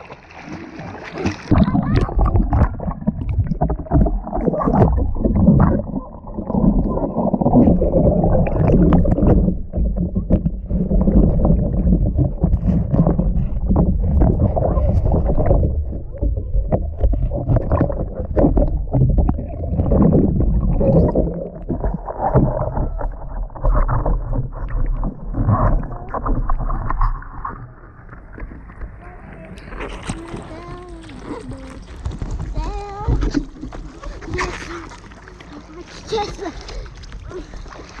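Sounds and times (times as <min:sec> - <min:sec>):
muffled underwater splashing: 0:00.0 - 0:38.0.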